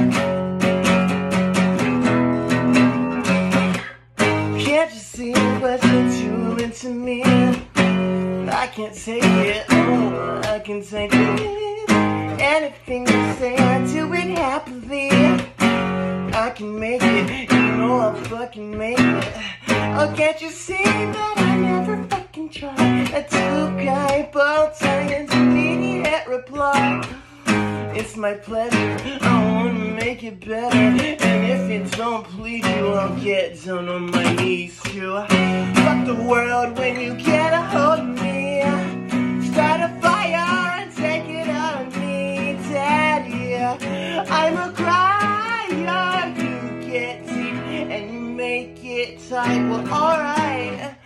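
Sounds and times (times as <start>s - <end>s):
acoustic guitar strumming: 0.0s - 51.0s
man singing: 0.0s - 51.0s.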